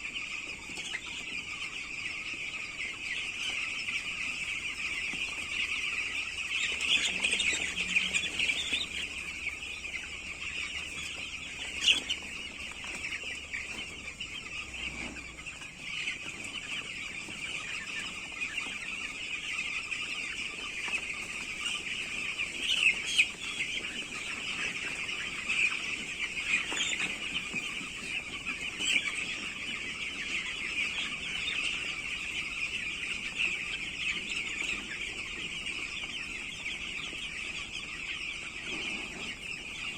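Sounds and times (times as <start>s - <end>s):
chickens peeping and clucking: 0.0s - 39.9s.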